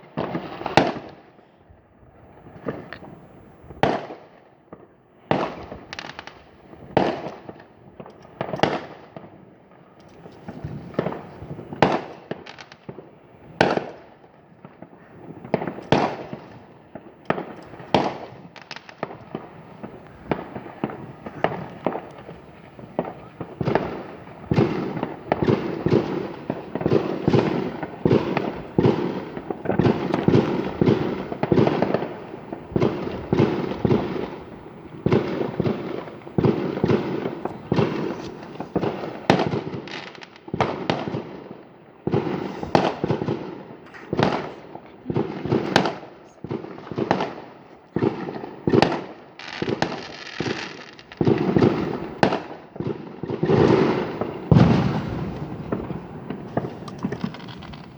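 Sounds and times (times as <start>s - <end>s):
fireworks bangs: 0.0s - 57.9s.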